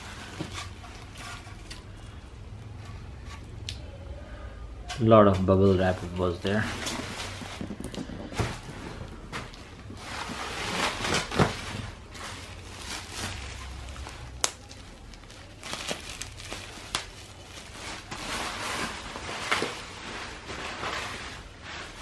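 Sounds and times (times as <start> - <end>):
bubble wrap crinkling: 0.0 - 3.8, 5.0 - 22.0.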